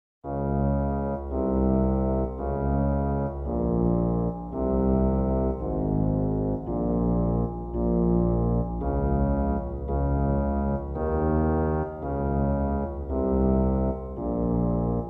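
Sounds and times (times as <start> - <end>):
organ-like keyboard chords: 0.2 - 15.0.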